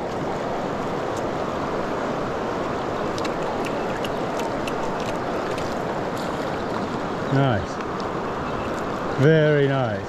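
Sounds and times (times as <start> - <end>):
river rushing over stones: 0.0 - 10.0.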